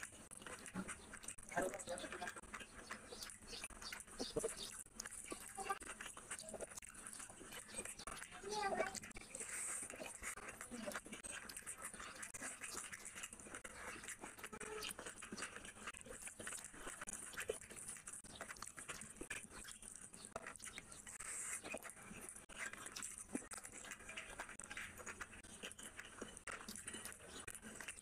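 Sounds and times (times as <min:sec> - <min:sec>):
fingers squishing rice: 0:00.0 - 0:28.0
wet chewing and lip smacking: 0:00.0 - 0:28.0.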